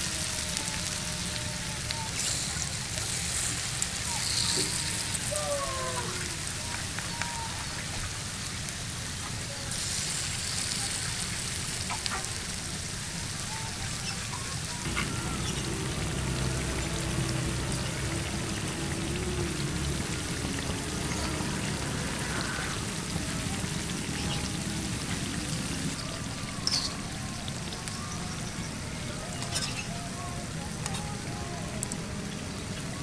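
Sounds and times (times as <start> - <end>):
fritters sizzling in hot oil: 0.0 - 33.0.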